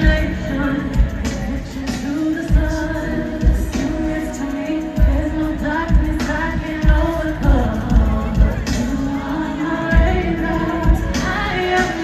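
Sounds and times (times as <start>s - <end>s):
live band playing: 0.0s - 12.0s
woman singing into a microphone: 0.0s - 12.0s.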